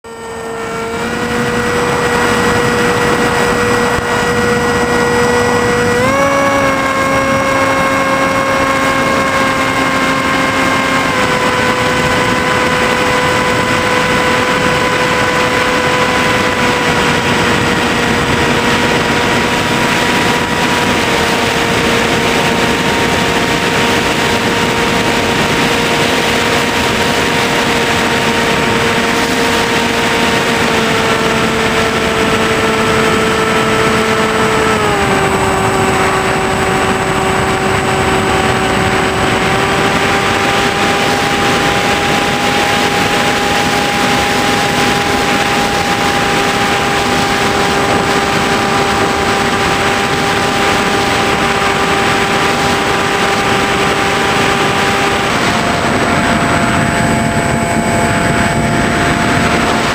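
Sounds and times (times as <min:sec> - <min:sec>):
electric motor and propeller whining: 0:00.0 - 0:59.9
wind rushing: 0:00.1 - 0:59.9.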